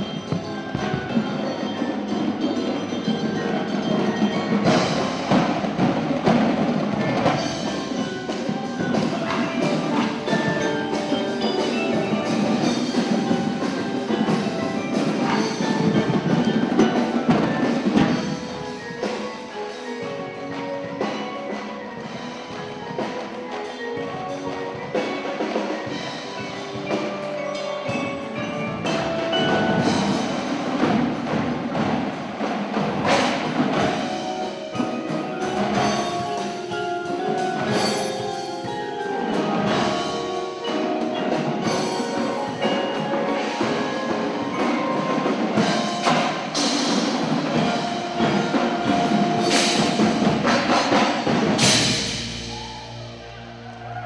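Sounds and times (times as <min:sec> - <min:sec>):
marching drums: 0:00.0 - 0:54.0
marimbas and xylophones: 0:00.0 - 0:54.0.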